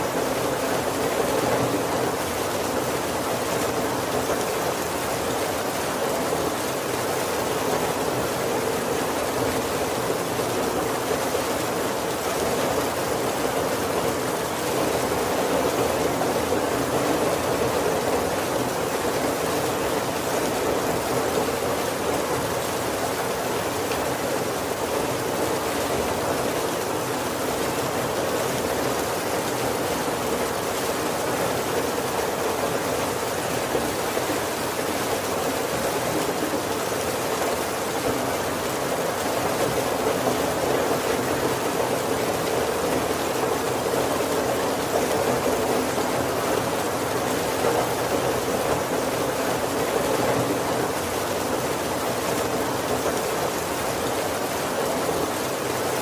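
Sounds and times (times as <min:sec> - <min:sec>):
heavy rain on wooden roof: 0:00.0 - 0:56.0.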